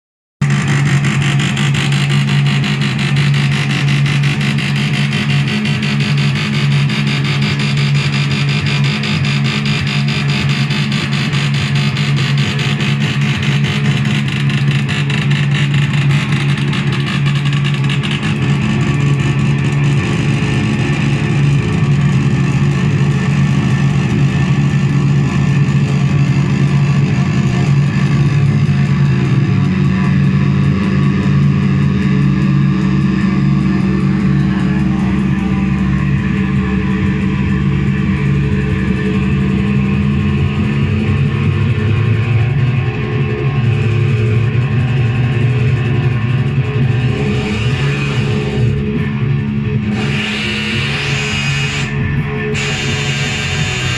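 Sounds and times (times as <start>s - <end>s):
low hum: 0.4s - 53.9s
synthesizer buzzing drone: 0.4s - 53.9s.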